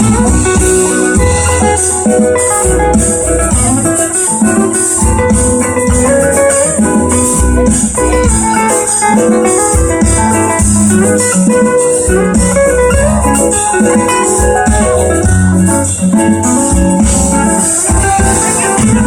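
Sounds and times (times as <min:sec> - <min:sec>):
low bass notes: 0:00.0 - 0:19.0
plucked acoustic guitars: 0:00.0 - 0:19.0.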